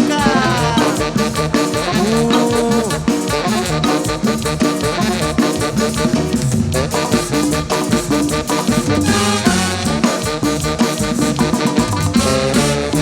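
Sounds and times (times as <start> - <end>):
driving percussion beat: 0.0 - 13.0
horns sliding notes: 0.0 - 13.0.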